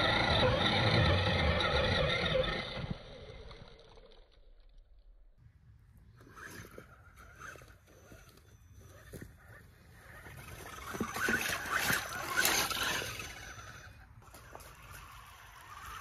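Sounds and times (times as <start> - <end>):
electric motor whining: 0.0 - 4.4, 6.2 - 16.0.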